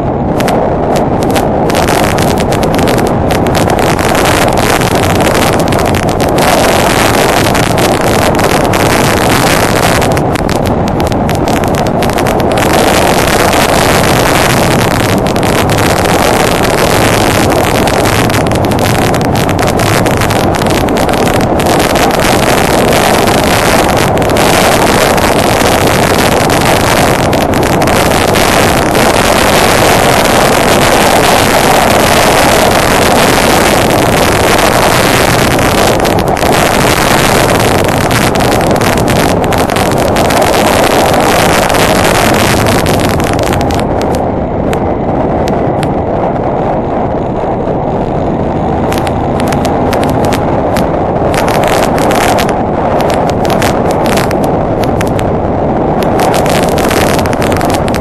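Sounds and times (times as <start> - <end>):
motorcycle engine cruising: 0.0 - 58.0
wind rushing on microphone: 0.0 - 58.0.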